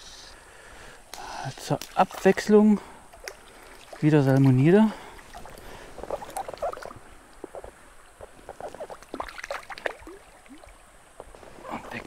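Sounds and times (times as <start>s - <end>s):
stream water splashing: 1.5s - 12.0s.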